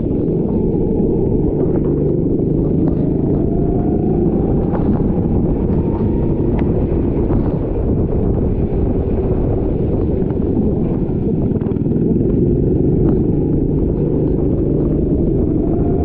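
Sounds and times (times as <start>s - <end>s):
faint rising whine: 0.0s - 16.0s
kart engine rumble: 0.0s - 16.0s.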